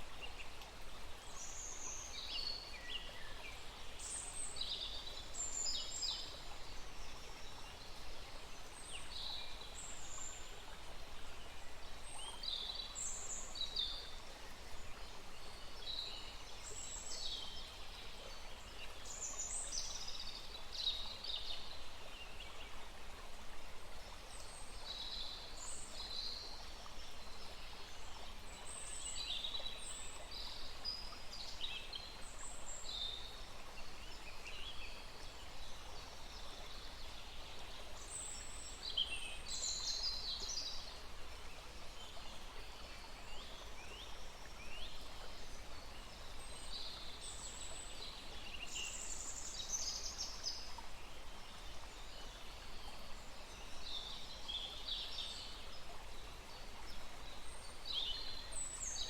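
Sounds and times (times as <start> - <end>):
faint rush of forest stream: 0.0 - 59.0.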